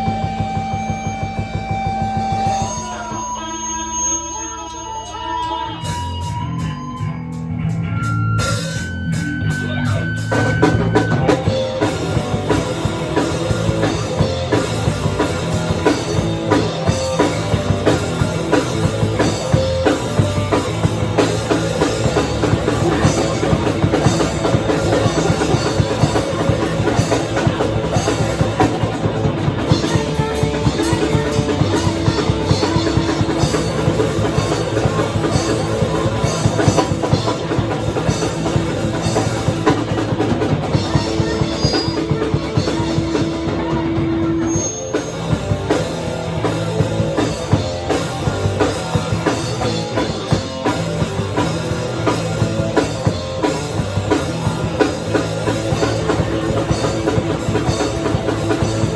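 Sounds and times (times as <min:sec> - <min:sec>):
rock band playing: 0:00.0 - 0:58.9
fast dense drumming: 0:08.6 - 0:44.4, 0:45.0 - 0:58.9.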